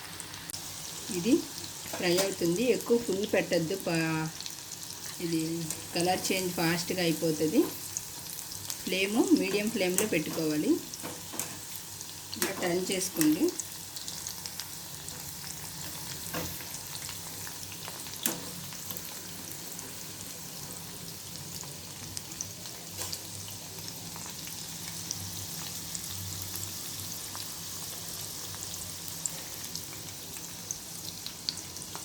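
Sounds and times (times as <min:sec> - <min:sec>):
fritters sizzling in hot oil: 0:00.0 - 0:32.0.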